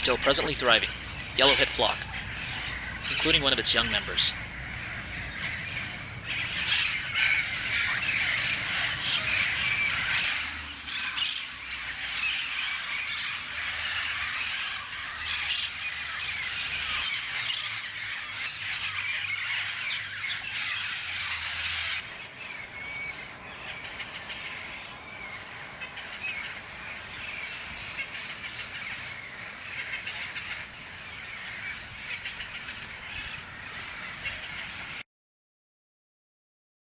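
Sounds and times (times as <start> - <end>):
parrots calling harshly: 0.0 - 35.0.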